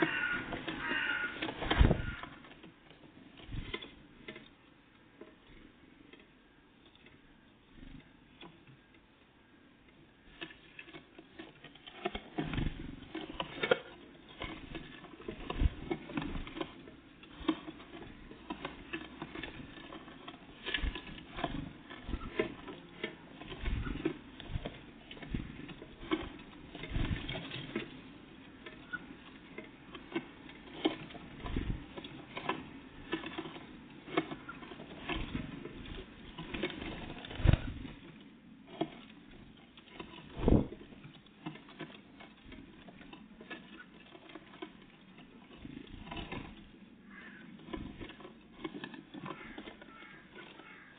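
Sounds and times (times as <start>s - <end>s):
birds pecking at seed: 0.0s - 50.9s.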